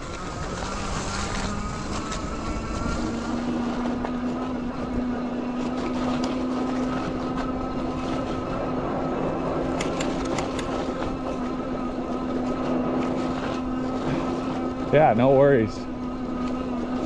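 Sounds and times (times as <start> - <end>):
electric motor whining: 0.0 - 17.0
tyres rolling over snow: 0.0 - 17.0.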